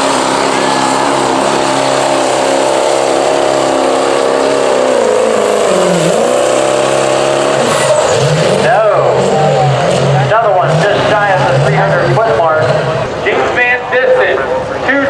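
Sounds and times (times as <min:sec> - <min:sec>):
diesel engine revving hard: 0:00.0 - 0:13.6.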